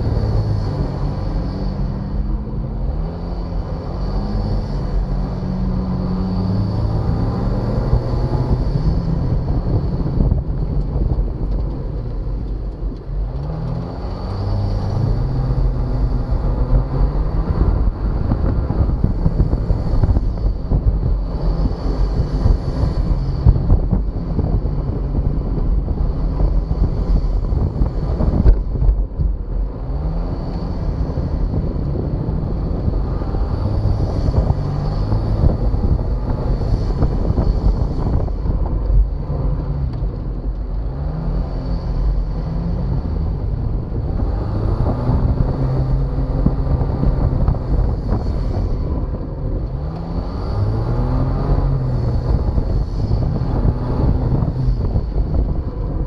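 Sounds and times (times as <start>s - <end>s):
car engine revving under load: 0.0s - 56.0s
wind noise on microphone: 0.0s - 56.0s.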